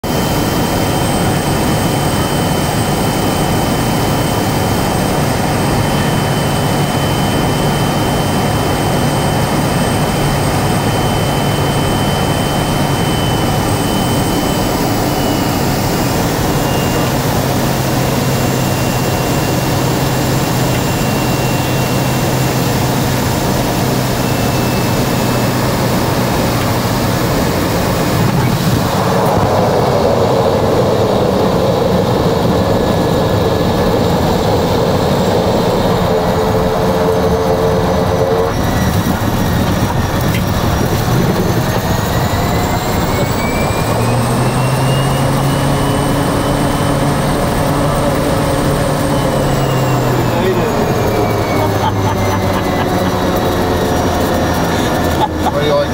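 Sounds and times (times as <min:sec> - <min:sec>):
high turbine whine: 0:00.0 - 0:55.9
turboprop engine drone: 0:00.0 - 0:55.9.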